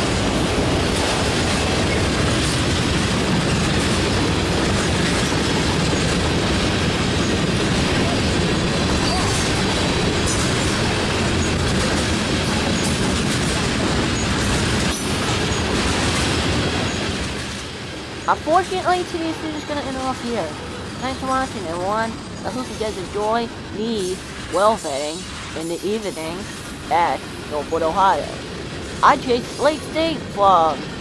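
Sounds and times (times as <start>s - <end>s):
steel wheels rolling on rails: 0.0s - 31.0s.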